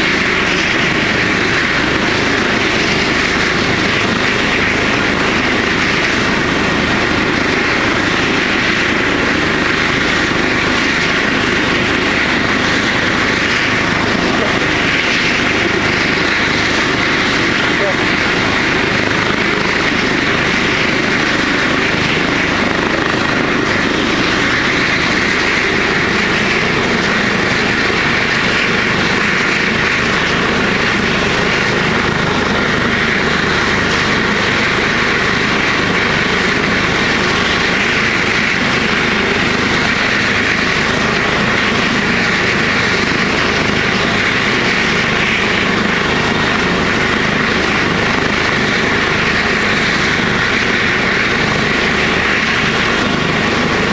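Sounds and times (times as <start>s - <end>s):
helicopter turbine and rotor: 0.0s - 53.9s.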